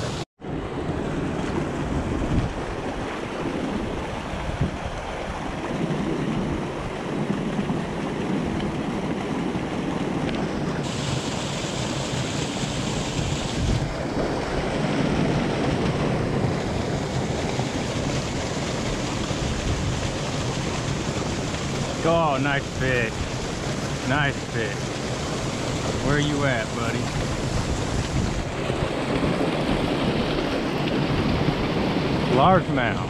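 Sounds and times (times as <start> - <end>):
water gushing from a pipe: 0.9 - 33.0.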